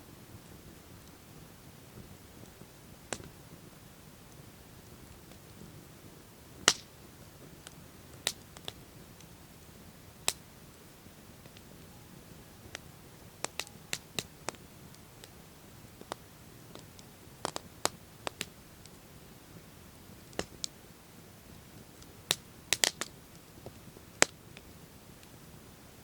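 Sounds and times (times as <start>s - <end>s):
faint low hiss: 0.0s - 26.0s
wood fire popping and snapping: 0.4s - 25.4s.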